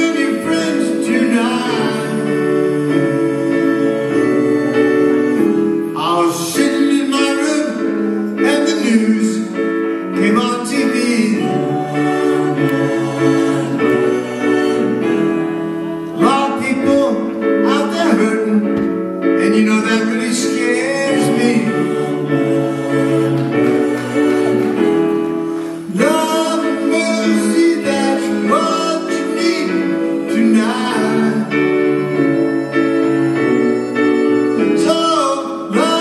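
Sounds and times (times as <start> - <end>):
man singing: 0.0 - 13.8, 16.0 - 23.0, 25.8 - 36.0
keyboard chords: 0.0 - 36.0
live band music: 0.0 - 36.0.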